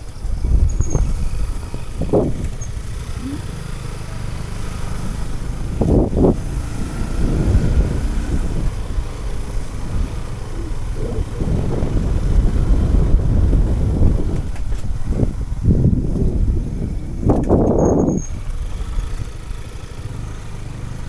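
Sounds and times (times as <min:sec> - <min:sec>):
motorcycle engine rumble: 0:00.0 - 0:21.0
wind buffeting microphone: 0:00.0 - 0:21.0.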